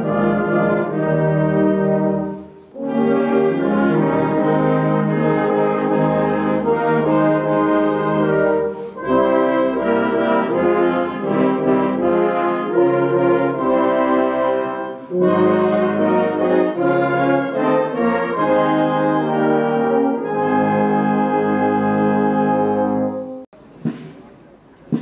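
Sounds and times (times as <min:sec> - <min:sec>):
brass band playing slow music: 0:00.0 - 0:25.0.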